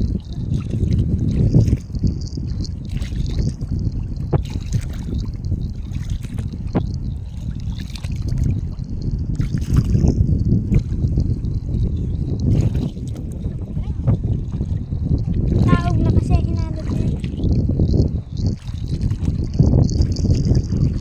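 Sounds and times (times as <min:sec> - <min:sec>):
seawater sloshing and splashing: 0:00.0 - 0:21.0
steady low rumble: 0:00.0 - 0:21.0.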